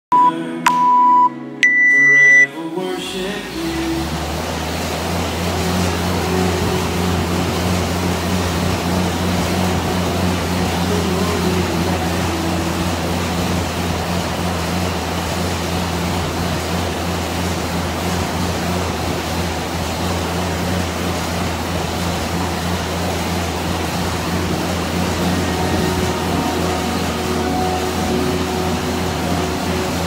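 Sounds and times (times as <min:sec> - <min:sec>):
air bike fan whooshing: 0:03.5 - 0:30.0.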